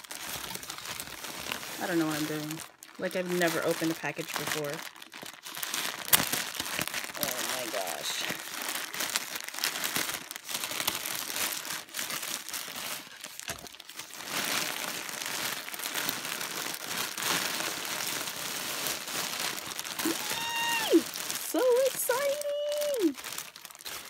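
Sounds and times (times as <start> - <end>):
thin plastic crinkling and rustling: 0.0 - 24.0.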